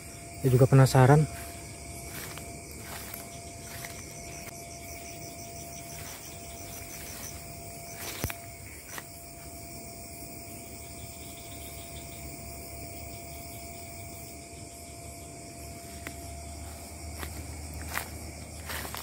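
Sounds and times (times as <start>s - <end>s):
fast pulsing insect call: 0.0s - 19.0s
insects trilling: 0.0s - 19.0s.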